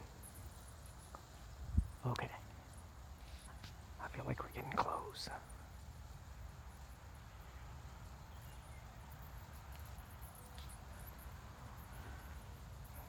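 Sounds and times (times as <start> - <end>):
high-pitched ticks and chirps: 0.0 - 13.0.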